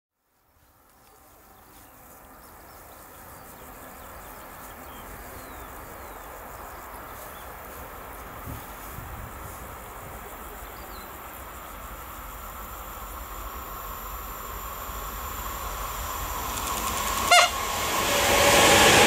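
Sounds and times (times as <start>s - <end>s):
insects chirping: 0.3s - 19.0s
distant freight train rushing: 2.5s - 19.0s.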